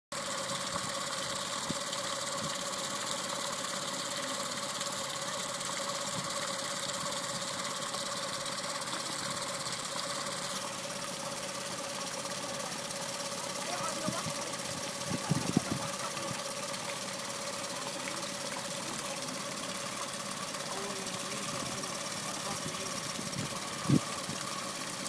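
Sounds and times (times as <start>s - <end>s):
outboard engine idling: 0.1s - 25.0s.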